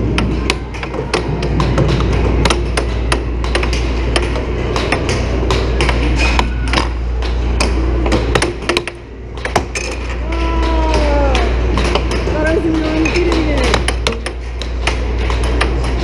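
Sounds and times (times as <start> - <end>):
steady low hum: 0.0 - 16.0
air hockey puck clacking: 0.1 - 16.0.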